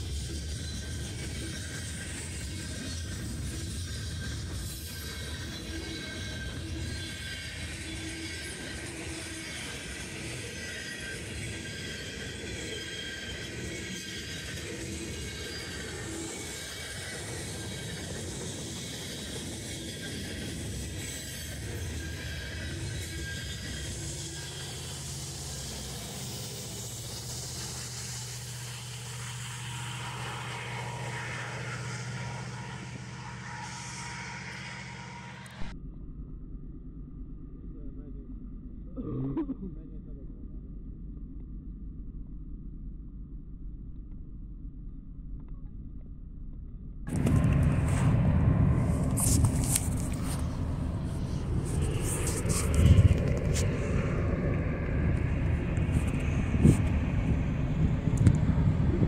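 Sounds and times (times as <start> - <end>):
train wheels rumbling on rail: 0.0 - 35.7, 47.1 - 59.0
diesel locomotive drone: 0.0 - 38.9, 47.0 - 59.0.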